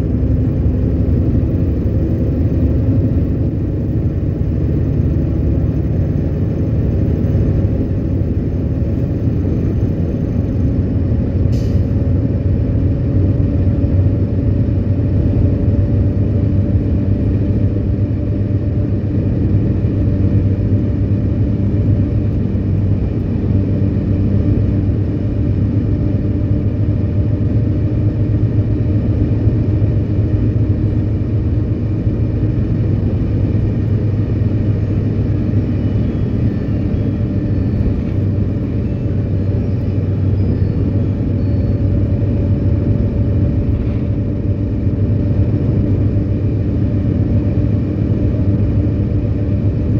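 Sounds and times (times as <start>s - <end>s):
bus engine hum: 0.0s - 49.9s
road noise: 0.0s - 49.9s.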